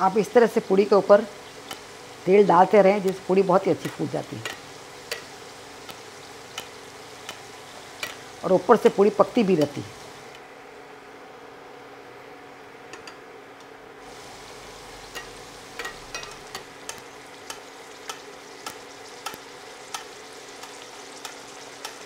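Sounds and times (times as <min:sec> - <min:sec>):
bread sizzling in hot oil: 0:00.0 - 0:10.3, 0:14.0 - 0:22.0.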